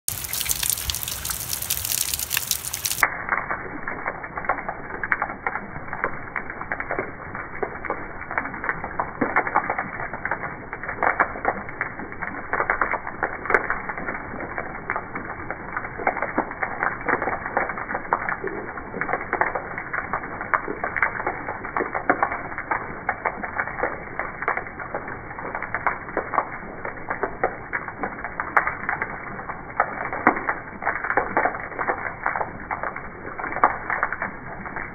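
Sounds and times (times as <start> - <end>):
rain on wooden steps: 0.0 - 34.9.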